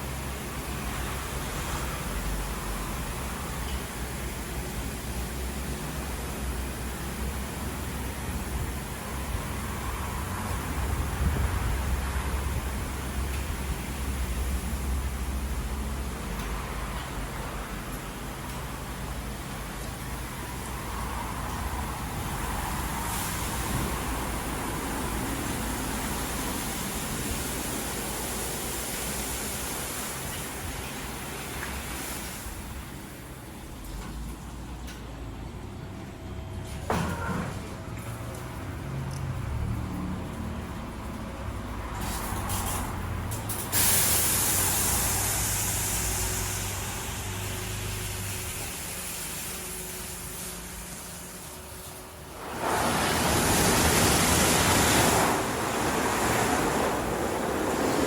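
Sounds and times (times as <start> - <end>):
car wash running: 0.0 - 58.0.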